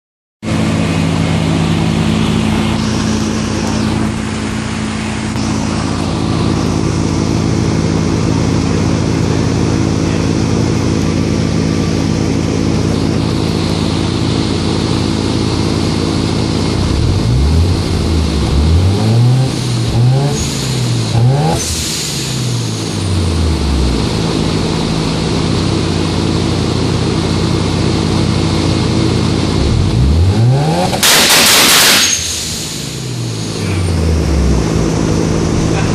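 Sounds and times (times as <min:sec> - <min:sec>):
rotary engine idling and revving: 0:00.5 - 0:35.9.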